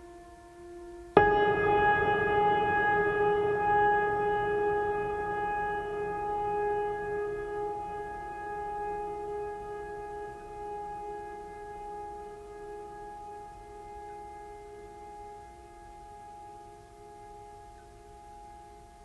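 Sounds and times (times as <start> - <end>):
sustained ringing tone: 0.0 - 19.0.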